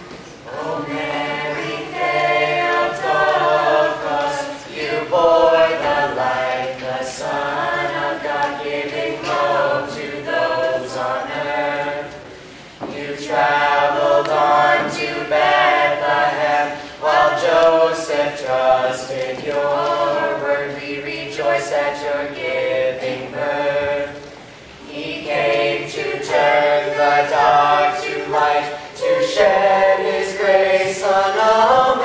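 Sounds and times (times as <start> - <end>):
choir singing a hymn: 0.0 - 32.0.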